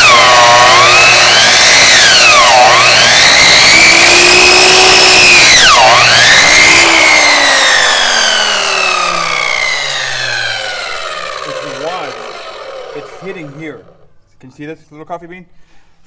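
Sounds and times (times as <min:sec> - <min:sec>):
electric chop saw whining: 0:00.0 - 0:14.1.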